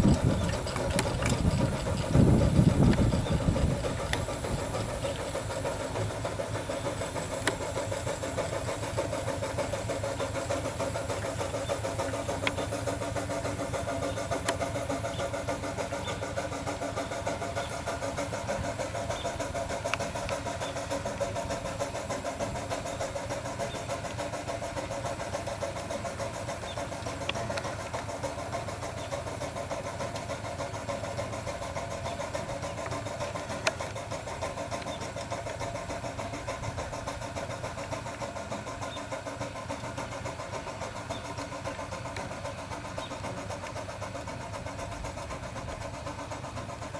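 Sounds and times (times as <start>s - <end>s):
steam traction engine running: 0.0s - 46.9s.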